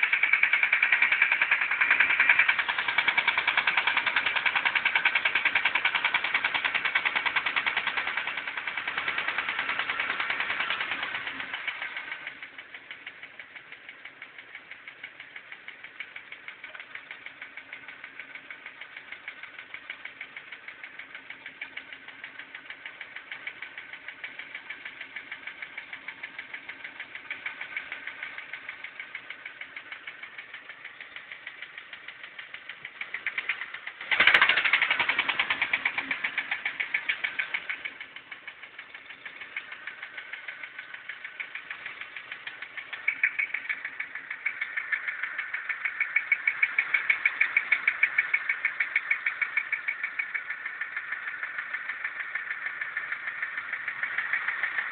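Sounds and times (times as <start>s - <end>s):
engine running with knock: 0.0s - 54.9s.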